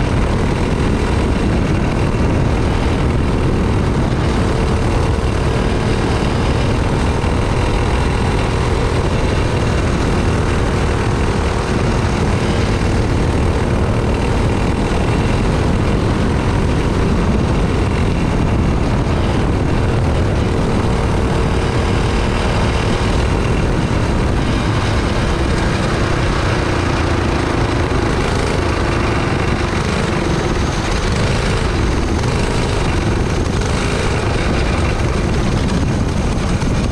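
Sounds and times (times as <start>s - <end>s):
kart engine running hard: 0.0s - 36.9s
wind and road noise: 0.0s - 36.9s.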